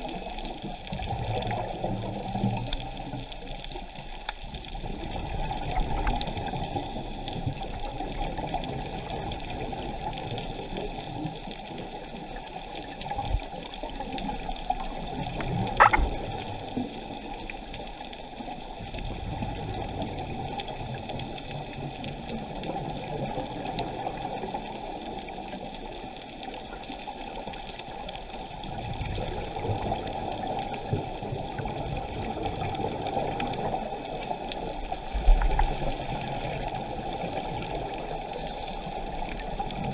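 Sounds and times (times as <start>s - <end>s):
muffled underwater water rush: 0.0s - 39.9s
scuba regulator bubbles: 0.0s - 39.9s.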